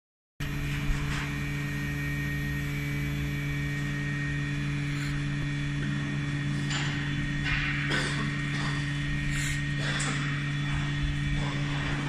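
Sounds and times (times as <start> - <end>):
vacuum pump humming: 0.4 - 12.0.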